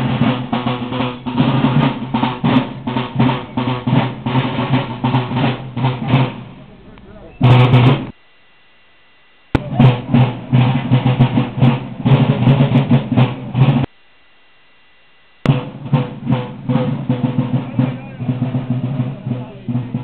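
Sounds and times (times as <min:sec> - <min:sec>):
parade drums playing: 0:00.0 - 0:08.2, 0:09.6 - 0:13.9, 0:15.4 - 0:20.0.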